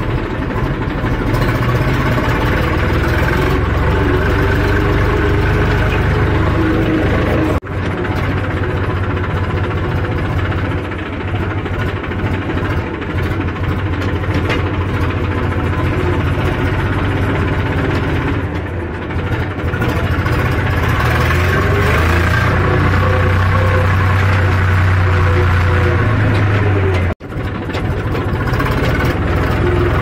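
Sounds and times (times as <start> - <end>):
tractor diesel engine rumbling: 0.0 - 30.0.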